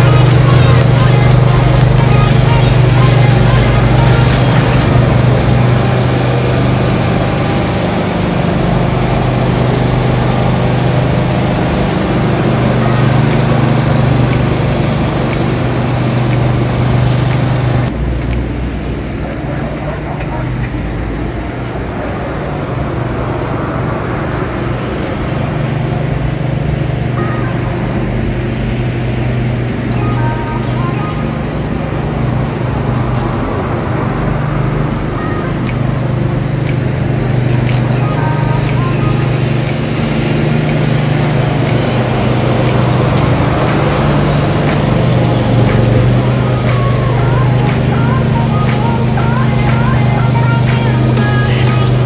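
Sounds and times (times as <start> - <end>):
engine drone: 0.0 - 52.0.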